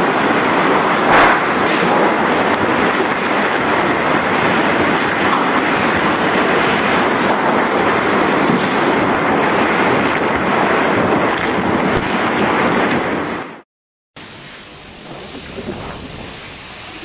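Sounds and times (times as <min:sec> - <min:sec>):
driving rain: 0:00.0 - 0:13.6, 0:14.2 - 0:17.0
strong wind: 0:00.0 - 0:13.6, 0:14.7 - 0:17.0.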